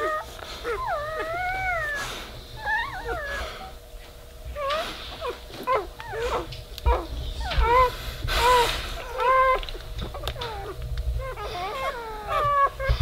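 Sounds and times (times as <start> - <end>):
puppy squealing: 0.0 - 3.8, 4.5 - 13.0.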